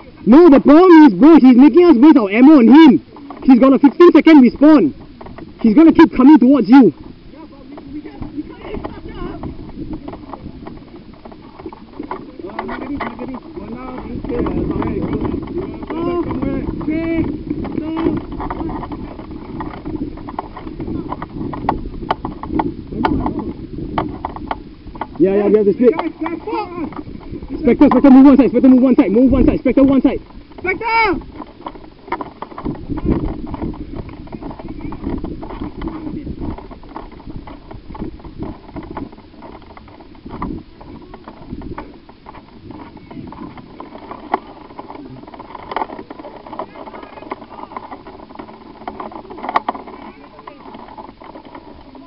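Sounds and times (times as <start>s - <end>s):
footsteps: 0.0s - 52.0s
rustling: 0.0s - 52.0s
low rumble of handling noise: 1.8s - 52.0s
gear clattering: 7.8s - 52.0s.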